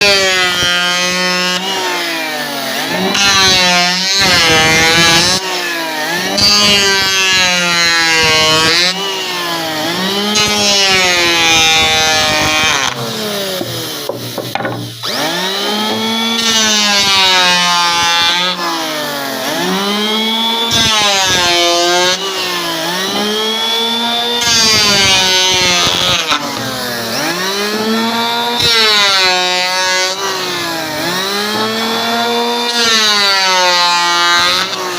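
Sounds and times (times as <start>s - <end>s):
motor saw cutting wood: 0.0s - 34.9s.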